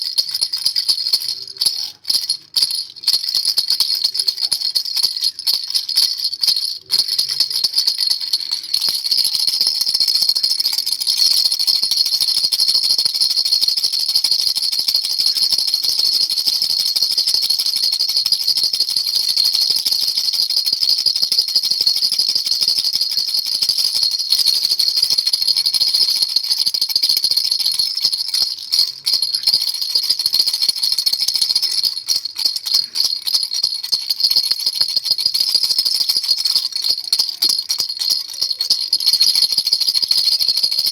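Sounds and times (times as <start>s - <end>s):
baby rattle shaken: 0.0s - 40.9s.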